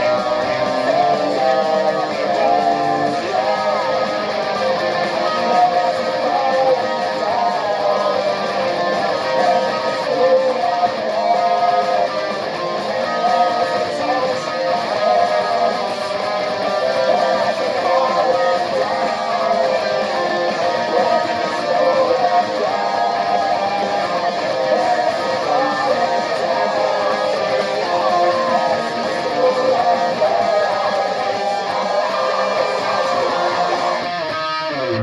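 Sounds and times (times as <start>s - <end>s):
electric guitar rock music: 0.0s - 35.0s.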